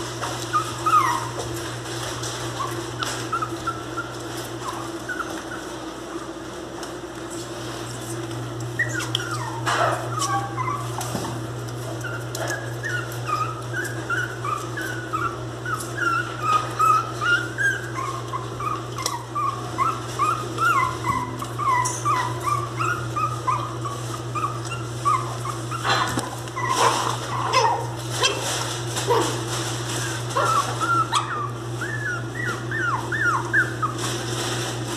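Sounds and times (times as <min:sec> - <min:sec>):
puppies whimpering: 0:00.1 - 0:06.7, 0:08.5 - 0:34.6.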